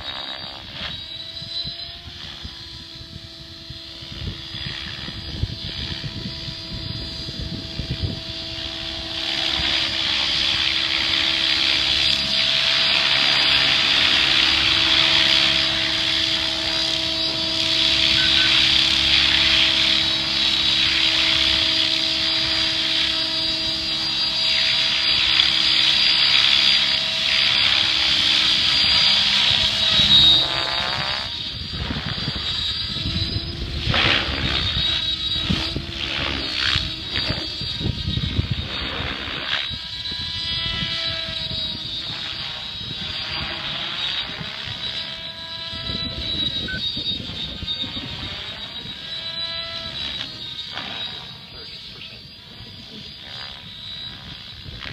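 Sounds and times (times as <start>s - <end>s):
helicopter motor whine: 0.0s - 54.9s
rotor blades swishing: 0.0s - 54.9s.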